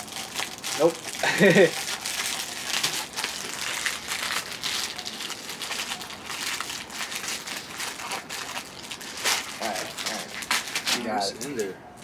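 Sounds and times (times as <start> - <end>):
wrapper crinkling: 0.0 - 11.6.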